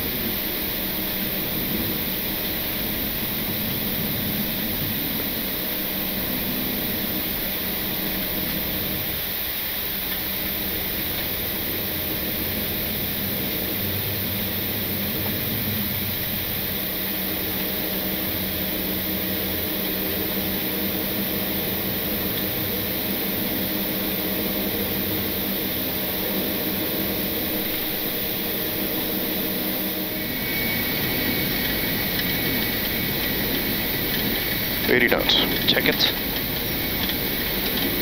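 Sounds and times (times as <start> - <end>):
cockpit air hiss: 0.0 - 38.0
jet engines whining: 0.0 - 38.0.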